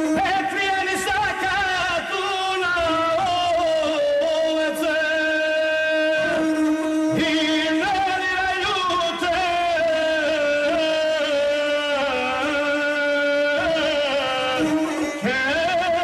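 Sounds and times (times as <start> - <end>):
bowed fiddle melody: 0.0 - 3.1, 3.7 - 16.0.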